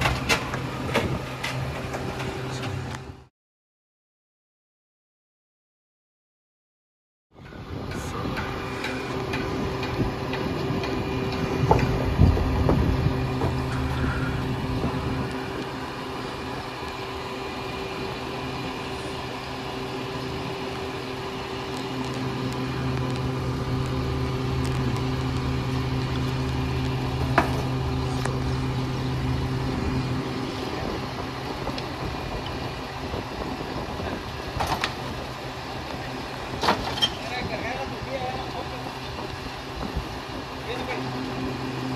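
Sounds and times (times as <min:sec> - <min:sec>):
diesel truck engine running: 0:00.0 - 0:03.3, 0:07.4 - 0:41.9.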